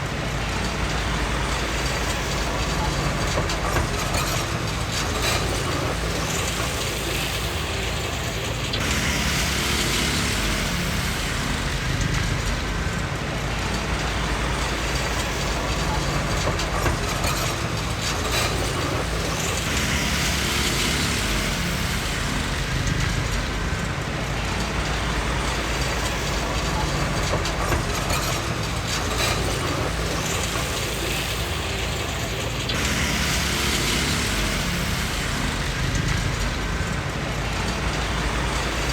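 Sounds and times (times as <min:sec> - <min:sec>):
diesel engine running: 0:00.0 - 0:38.9
steel tracks rattling and clanking: 0:00.0 - 0:38.9.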